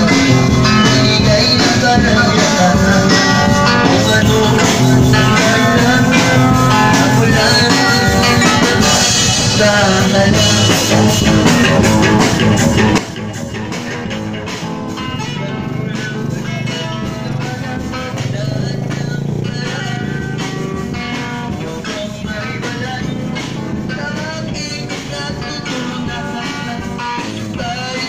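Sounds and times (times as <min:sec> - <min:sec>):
drum kit playing: 0:00.0 - 0:28.0
guitar playing: 0:00.0 - 0:28.0.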